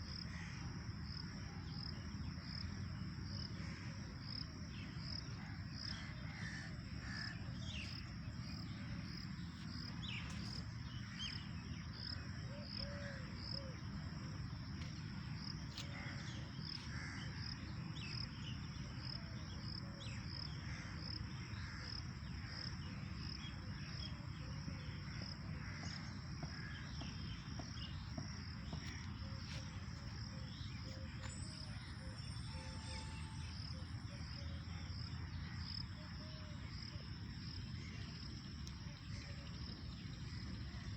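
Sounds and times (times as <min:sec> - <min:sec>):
insect chirping: 0:00.0 - 0:40.9.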